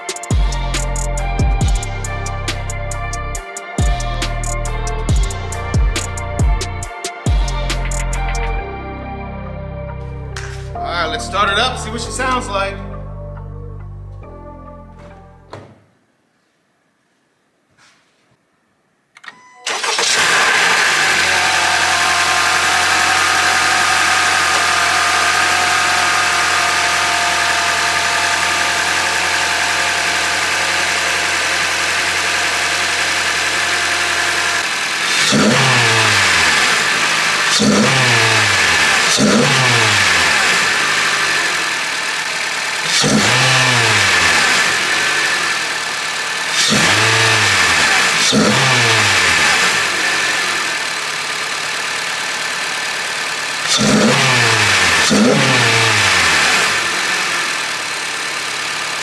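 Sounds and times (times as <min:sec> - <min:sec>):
engine revving: 0:00.0 - 0:08.6, 0:19.7 - 0:59.0
car engine starting and idling: 0:00.0 - 0:08.7, 0:19.2 - 0:59.0.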